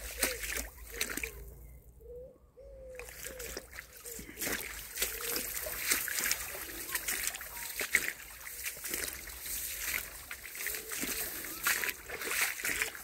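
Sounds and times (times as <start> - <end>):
footsteps wading through stream: 0.0 - 1.8, 2.8 - 13.0.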